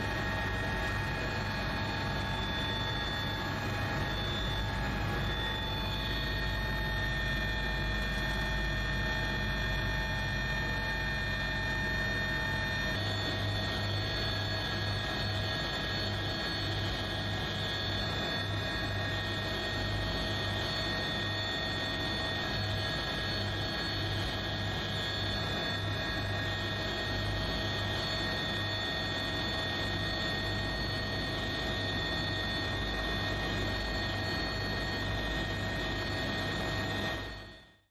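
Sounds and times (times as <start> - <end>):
helicopter engine and rotor drone: 0.0 - 37.9.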